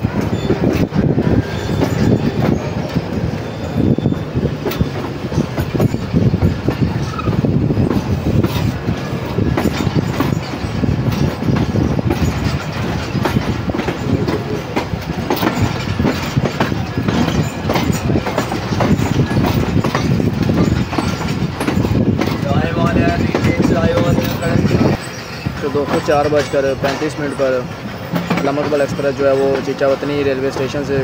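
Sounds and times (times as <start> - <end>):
train wheels clacking on rails: 0.0 - 31.0.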